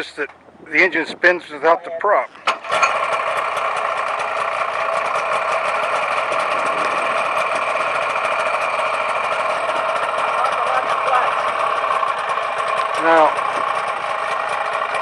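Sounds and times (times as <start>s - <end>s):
aircraft engine idling: 2.3s - 15.0s.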